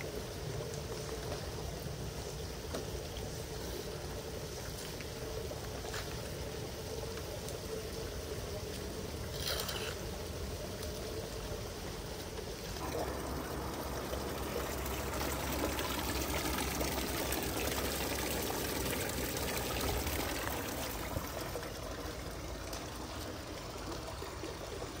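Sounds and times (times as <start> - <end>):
water pouring down storm drain: 0.0 - 25.0.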